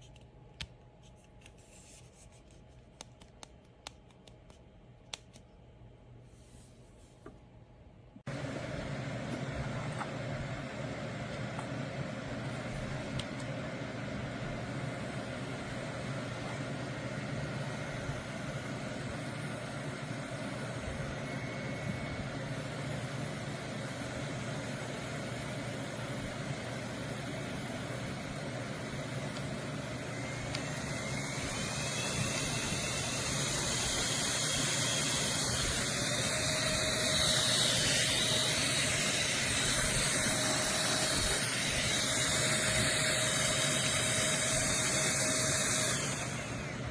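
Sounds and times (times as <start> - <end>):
fan air rushing: 8.3 - 46.9
small fan motor running: 8.3 - 46.9.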